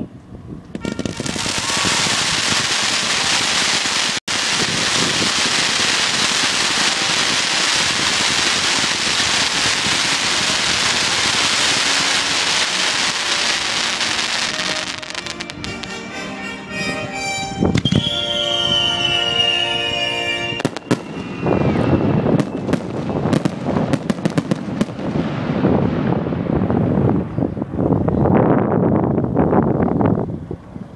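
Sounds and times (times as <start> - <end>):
fireworks crackling and hissing: 0.7 - 16.1, 17.7 - 27.2.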